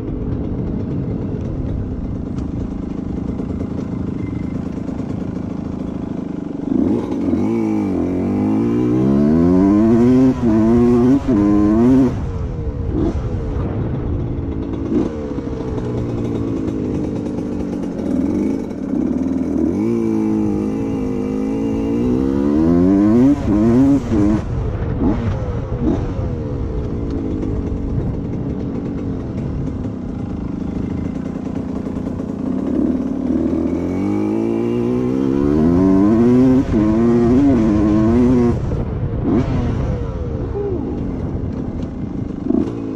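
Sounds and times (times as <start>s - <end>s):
two-stroke motorcycle engine accelerating: 0.0s - 42.9s.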